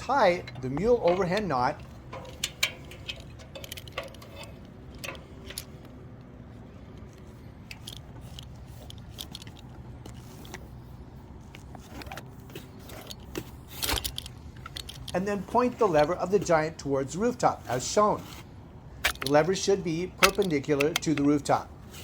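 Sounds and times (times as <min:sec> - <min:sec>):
low background hum: 0:00.0 - 0:22.0
metal carabiners clicking and jangling: 0:00.0 - 0:22.0.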